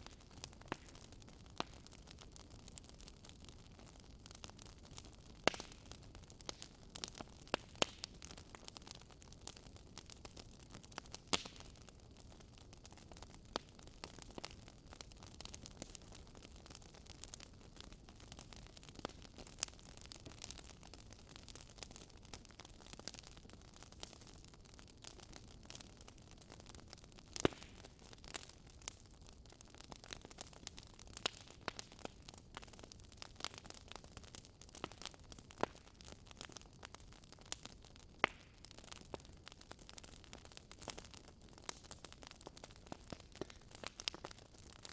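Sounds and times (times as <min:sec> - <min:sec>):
soft steady fire hiss: 0:00.0 - 0:44.9
wood fire crackling and popping: 0:00.0 - 0:44.9.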